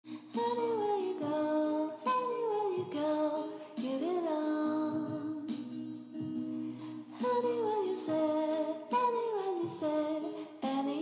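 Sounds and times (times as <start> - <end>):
sung melody: 0.3 - 11.0.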